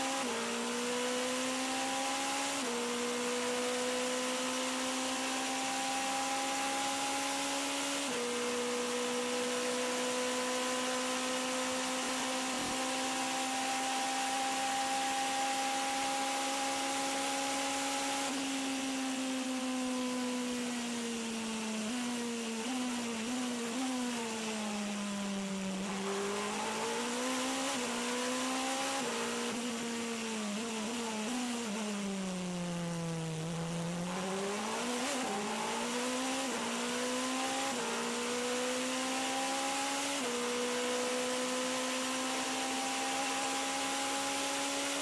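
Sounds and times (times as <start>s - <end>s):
race car engine at speed: 0.0s - 45.0s.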